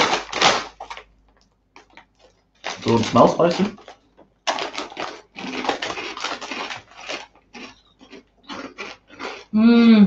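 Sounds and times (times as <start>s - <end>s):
foil crisp bag crinkling: 0.0s - 9.4s
crisps being crunched: 0.0s - 9.6s.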